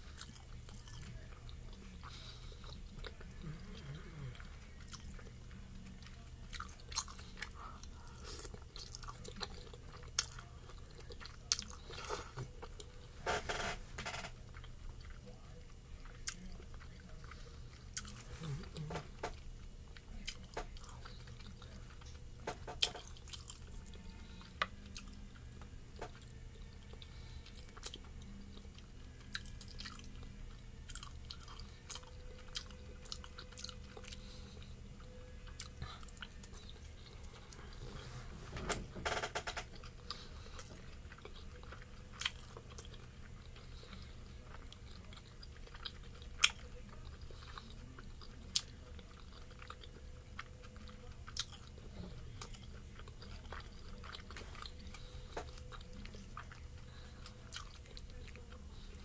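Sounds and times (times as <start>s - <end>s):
person chewing: 0.0s - 38.0s, 38.6s - 59.0s.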